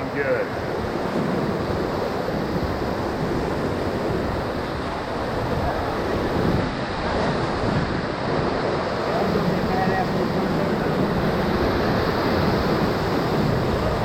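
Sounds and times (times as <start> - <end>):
river rapid rushing: 0.0 - 14.0
wind noise on microphone: 0.0 - 14.0.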